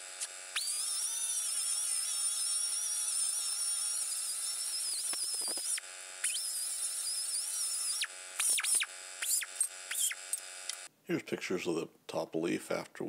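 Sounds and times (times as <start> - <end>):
angle grinder whining: 0.0 - 10.9.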